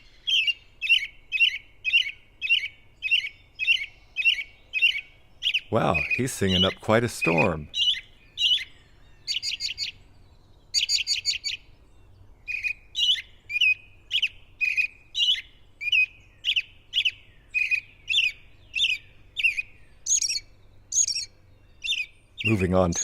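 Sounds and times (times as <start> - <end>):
robin singing whistled phrases: 0.0 - 23.0.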